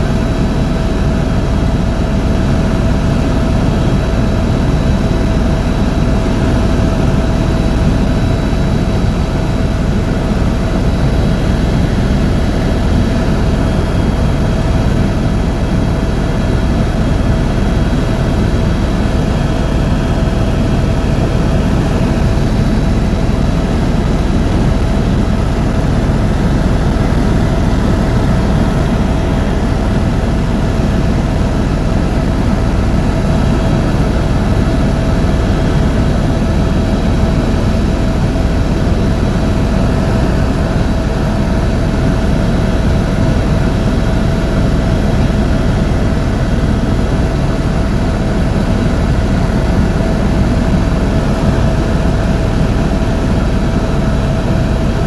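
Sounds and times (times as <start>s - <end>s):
helicopter rotor rumble and whine: 0.0s - 55.0s.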